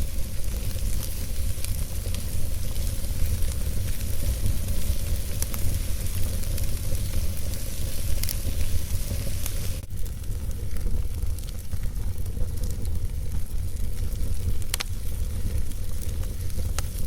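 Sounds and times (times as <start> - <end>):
fire crackling: 0.0 - 17.0
fire rumbling and hissing: 0.0 - 17.0.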